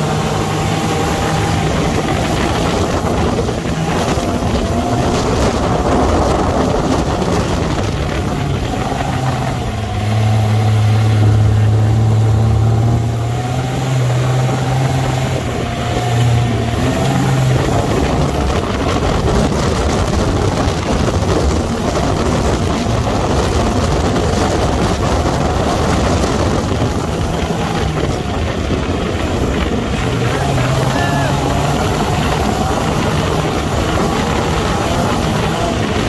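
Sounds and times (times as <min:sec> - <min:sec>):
dune buggy engine: 0:00.0 - 0:36.0
wind noise: 0:00.0 - 0:36.0.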